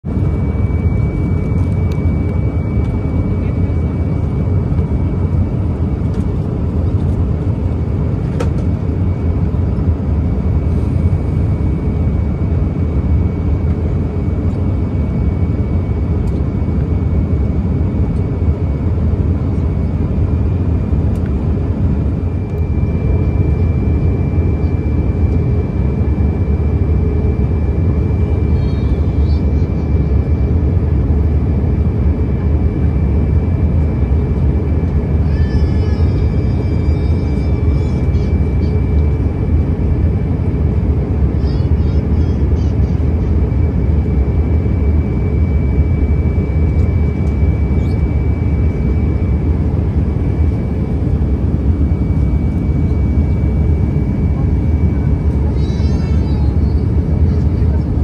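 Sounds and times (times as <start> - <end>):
airplane cabin rumble: 0.0 - 58.0
faint high whine: 0.1 - 58.0.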